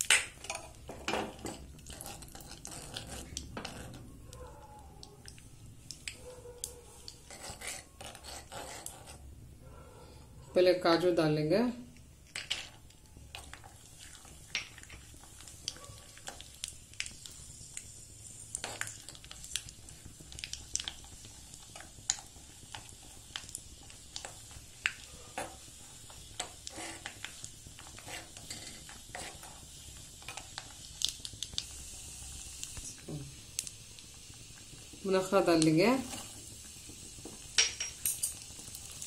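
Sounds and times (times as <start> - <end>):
nuts sizzling and popping in oil: 0.0 - 9.4, 10.6 - 39.0.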